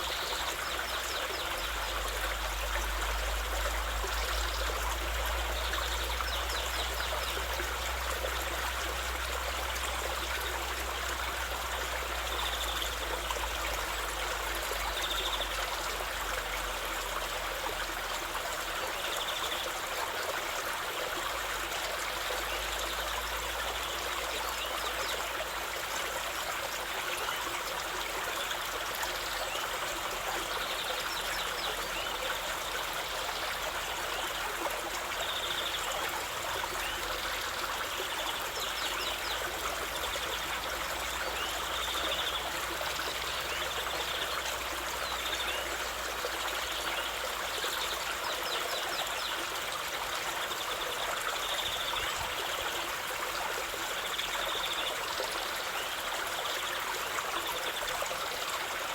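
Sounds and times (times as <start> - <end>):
stream water trickling: 0.0 - 58.9.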